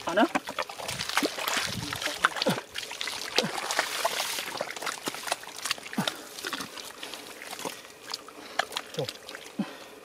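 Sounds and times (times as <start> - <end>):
boots squelching in mud: 0.0 - 9.6
muddy water splashing: 0.0 - 10.0.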